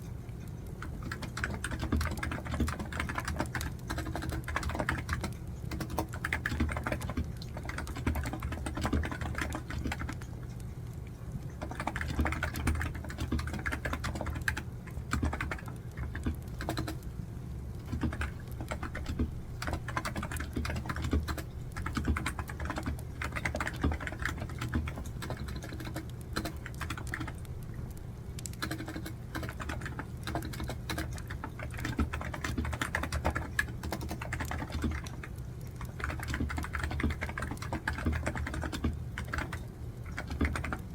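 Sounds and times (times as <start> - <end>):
computer keyboard typing: 0.4 - 10.4, 11.5 - 17.1, 17.7 - 27.6, 28.4 - 40.9.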